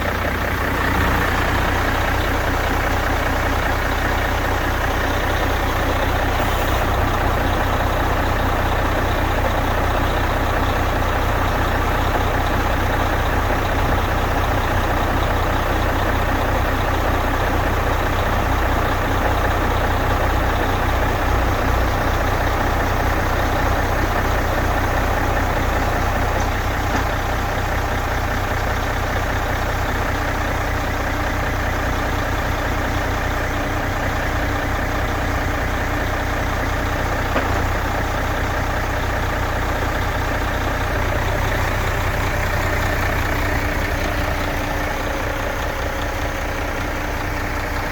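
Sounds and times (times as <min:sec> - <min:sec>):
diesel truck engine idling: 0:00.0 - 0:47.9.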